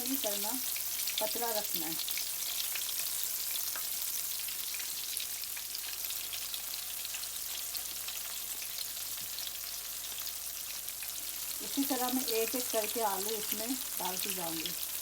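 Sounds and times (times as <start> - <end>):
oil sizzling while deep-frying: 0.0 - 15.0.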